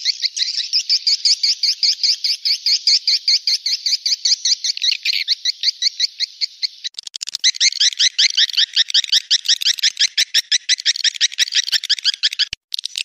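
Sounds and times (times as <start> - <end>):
swiftlet twittering chirps: 0.0 - 13.0.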